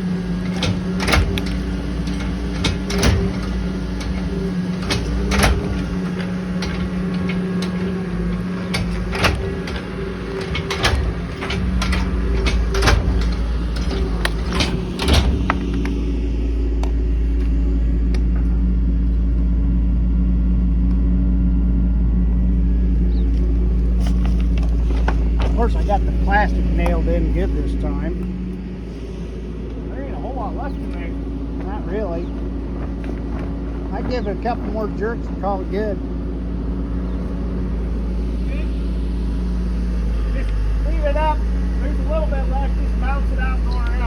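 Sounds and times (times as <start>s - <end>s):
loud clunks and rattles: 0.0s - 19.8s, 22.1s - 44.0s
truck engine running: 0.0s - 44.0s.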